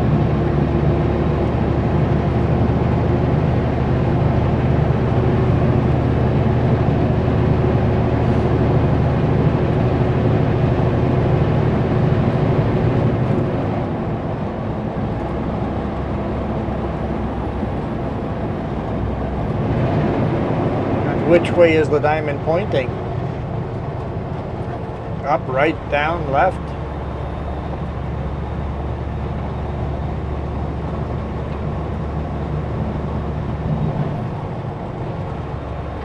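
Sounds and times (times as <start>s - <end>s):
road and tyre noise: 0.0s - 36.0s
truck diesel engine drone: 0.0s - 36.0s.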